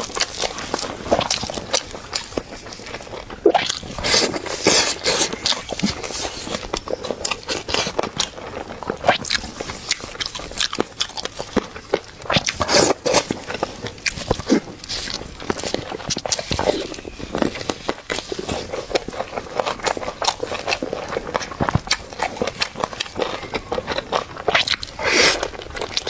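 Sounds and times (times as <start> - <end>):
chewing with wet smacks: 0.0 - 26.0
crunchy bites: 0.0 - 26.0.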